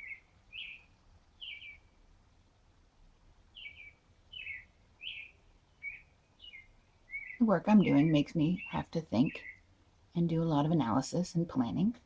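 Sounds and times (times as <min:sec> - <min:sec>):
bird chirping through window: 0:00.0 - 0:01.9, 0:03.5 - 0:11.8.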